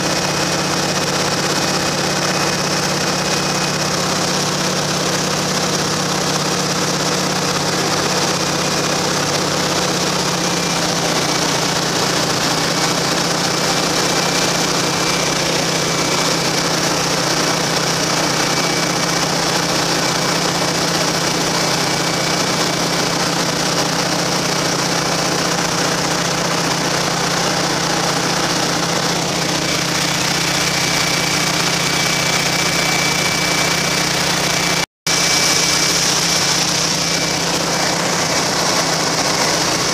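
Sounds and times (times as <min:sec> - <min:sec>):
radial engine running in flight: 0:00.0 - 0:39.9.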